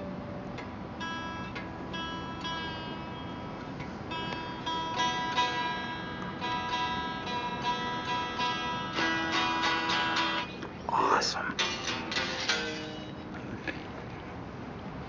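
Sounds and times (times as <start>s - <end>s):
electric guitar strings picked: 0.0s - 10.8s, 11.6s - 13.8s.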